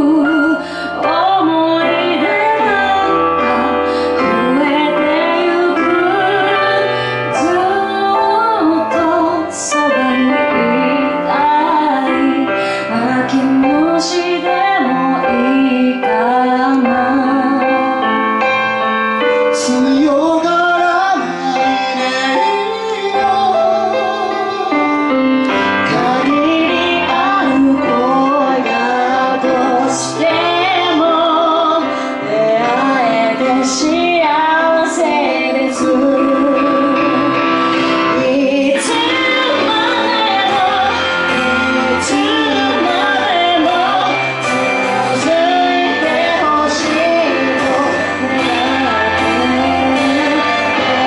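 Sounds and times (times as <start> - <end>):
piano backing track: 0.0 - 51.0
woman singing pop ballad: 0.0 - 51.0.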